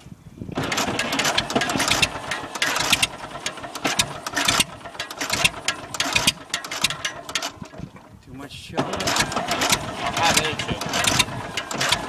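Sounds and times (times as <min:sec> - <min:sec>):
diesel engine firing unevenly: 0:00.5 - 0:12.0.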